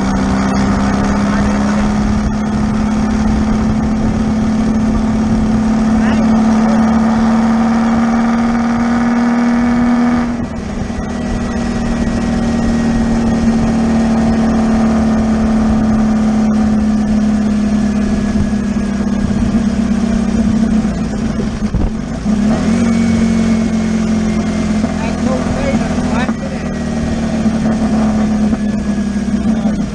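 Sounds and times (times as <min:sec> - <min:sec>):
buggy engine droning: 0:00.0 - 0:29.9.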